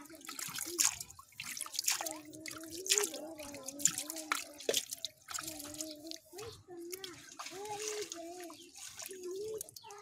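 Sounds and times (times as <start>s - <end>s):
water dripping: 0.0s - 10.0s.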